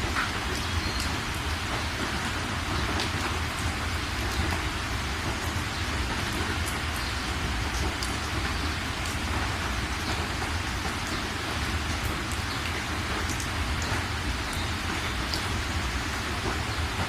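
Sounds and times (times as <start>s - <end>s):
drips ticking: 0.0s - 17.0s
steady rain hiss: 0.0s - 17.0s.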